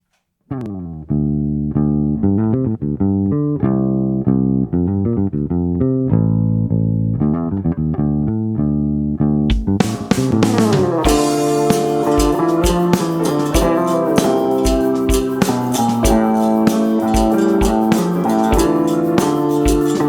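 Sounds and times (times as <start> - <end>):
bass guitar: 0.5 - 20.0
plucked guitar: 0.5 - 20.0.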